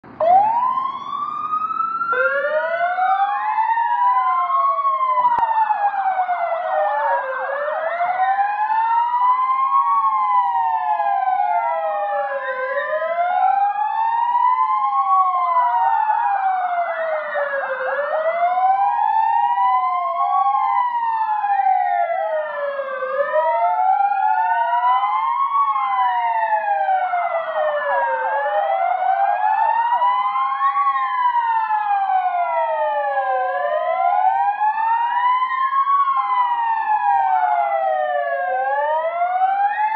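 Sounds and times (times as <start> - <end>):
fire engine sirens wailing: 0.0 - 39.9
rapid siren warble: 0.1 - 39.9.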